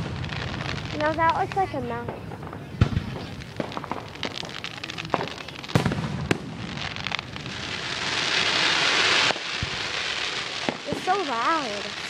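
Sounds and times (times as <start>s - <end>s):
firework shells bursting: 0.0s - 12.0s
fireworks pops and crackles: 0.0s - 12.0s.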